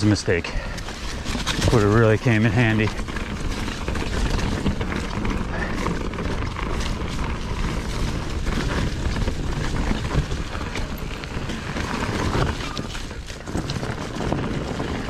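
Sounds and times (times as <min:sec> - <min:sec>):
bike clicks and rattles: 0:00.0 - 0:15.0.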